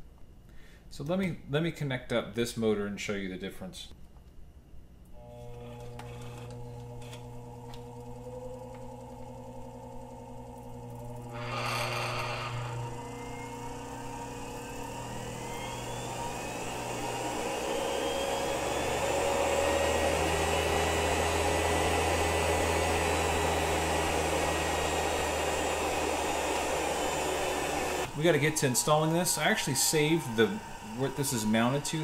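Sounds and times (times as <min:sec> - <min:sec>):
treadmill motor whine: 0:05.2 - 0:32.0.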